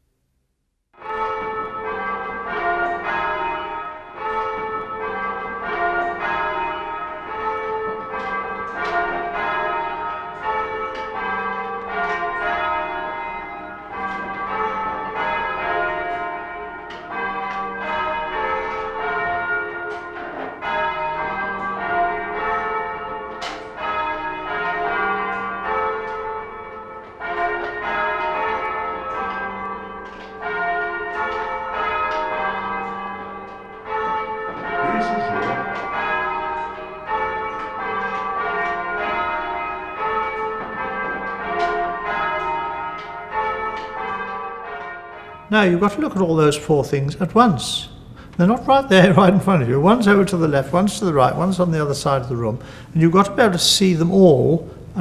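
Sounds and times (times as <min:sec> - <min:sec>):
church bells ringing: 0:01.0 - 0:55.0.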